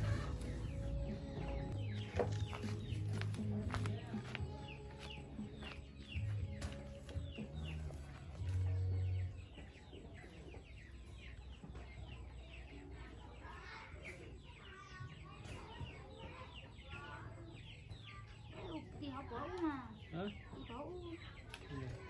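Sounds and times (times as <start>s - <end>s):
chickens clucking and chirping: 0.0s - 22.0s.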